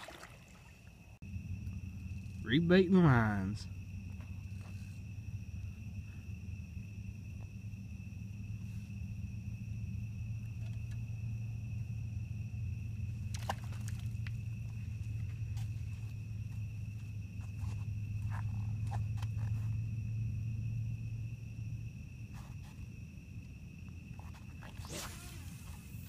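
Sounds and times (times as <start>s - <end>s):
insects trilling: 0.0s - 26.0s
low steady rumble: 1.0s - 24.5s.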